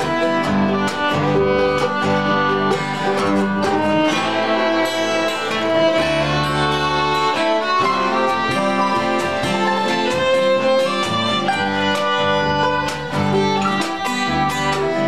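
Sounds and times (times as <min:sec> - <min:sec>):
bowed fiddle melody: 0:00.0 - 0:15.0
mandolin: 0:00.0 - 0:15.0
plucked upright bass: 0:00.0 - 0:15.0.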